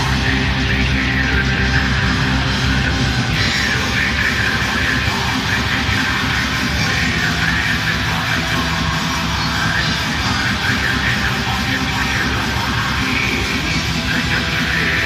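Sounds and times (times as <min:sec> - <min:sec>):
heavy metal band playing: 0:00.0 - 0:15.0.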